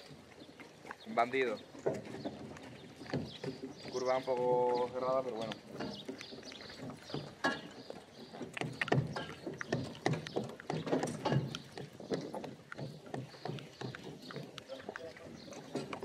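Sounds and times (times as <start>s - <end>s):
hooves clopping on dirt: 0.0s - 16.0s
wagon knocking and rattling: 0.0s - 16.0s.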